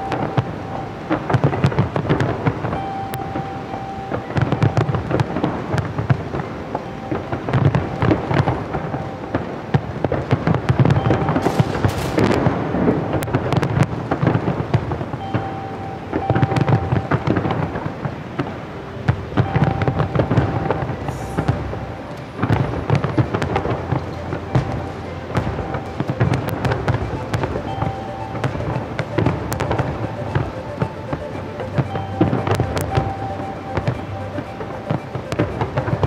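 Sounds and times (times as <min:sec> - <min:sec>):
fireworks booming: 0:00.0 - 0:36.0
fireworks crackling: 0:00.0 - 0:36.0.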